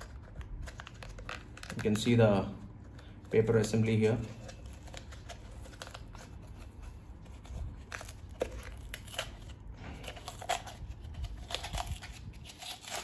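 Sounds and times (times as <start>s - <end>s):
paper filter tearing and crinkling: 0.0s - 2.4s, 3.4s - 13.0s.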